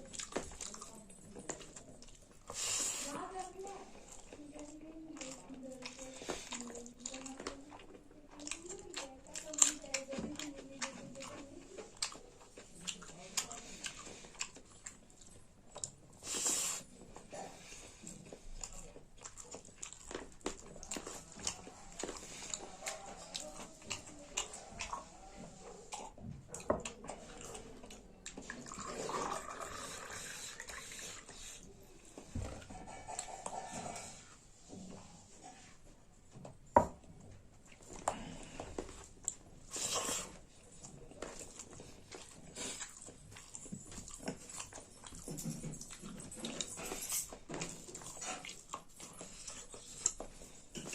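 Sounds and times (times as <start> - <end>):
chewing with wet mouth clicks: 0.0 - 2.6, 4.0 - 28.9, 37.6 - 50.9.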